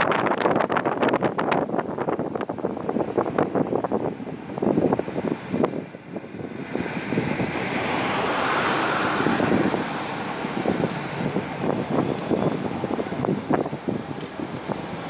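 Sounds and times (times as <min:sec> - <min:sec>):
vehicle travelling in traffic: 0:00.0 - 0:15.0
wind buffeting microphone: 0:00.0 - 0:15.0.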